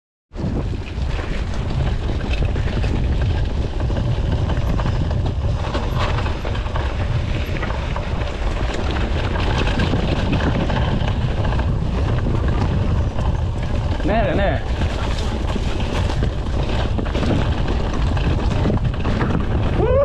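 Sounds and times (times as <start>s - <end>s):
wind buffeting microphone: 0.3s - 20.0s
bike rattling over stones: 0.4s - 20.0s.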